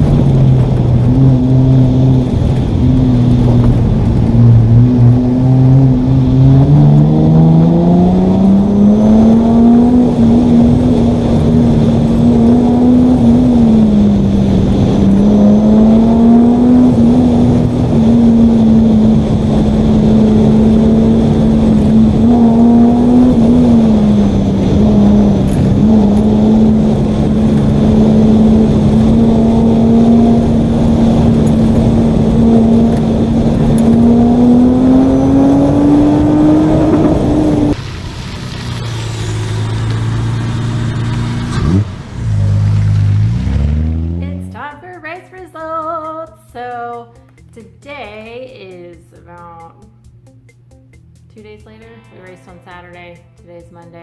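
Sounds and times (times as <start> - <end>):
car engine revving: 0.0 - 45.2.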